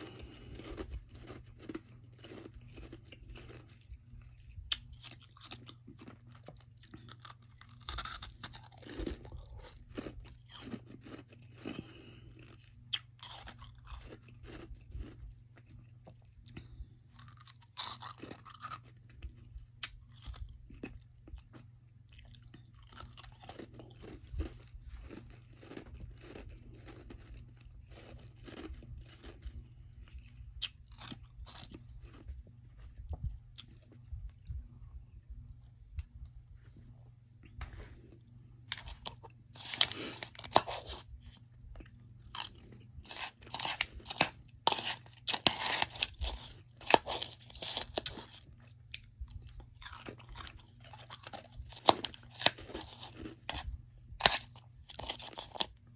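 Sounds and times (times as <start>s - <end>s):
chewing frost crunches: 0.0s - 34.7s, 36.0s - 55.9s
steady low hum: 0.0s - 55.9s.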